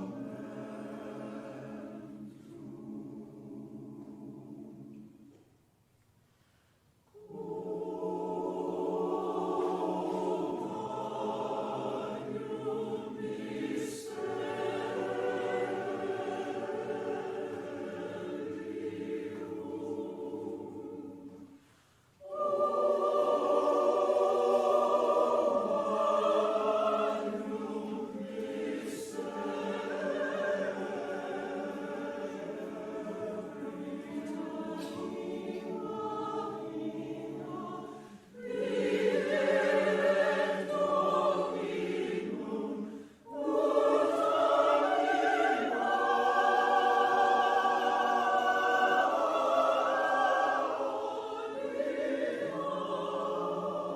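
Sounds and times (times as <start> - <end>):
church choir singing: 0.0 - 5.5, 7.0 - 53.9.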